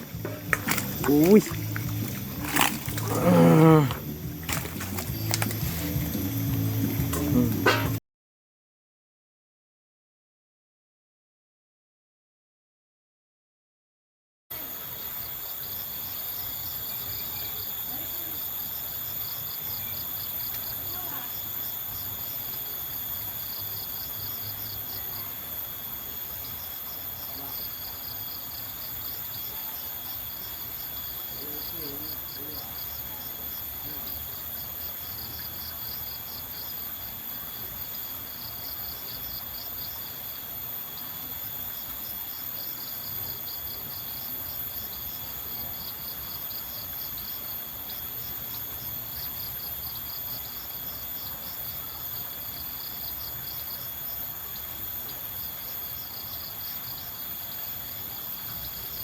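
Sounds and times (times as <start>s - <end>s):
insects chirping in pulses: 0.0s - 7.9s, 14.6s - 59.0s
insects buzzing: 0.0s - 8.0s, 14.6s - 59.0s.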